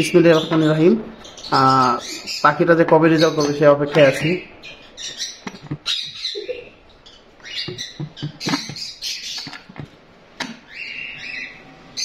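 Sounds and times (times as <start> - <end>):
bird chirps and squawks: 0.3 - 2.6, 3.2 - 9.8, 10.6 - 12.0.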